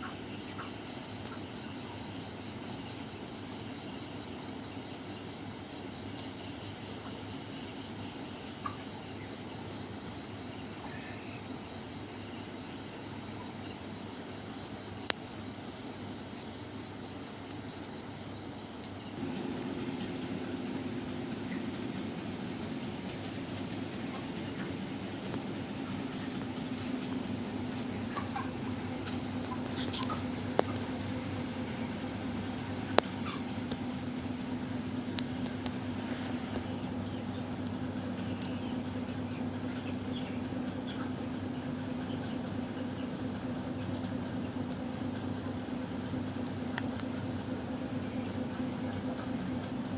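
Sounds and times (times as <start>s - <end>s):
crickets chirping: 0.0s - 49.9s
steady low hum: 0.0s - 49.9s.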